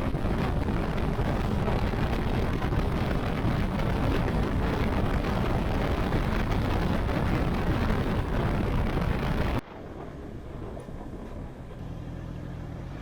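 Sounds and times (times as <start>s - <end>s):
wind roaring over microphone: 0.0s - 13.0s.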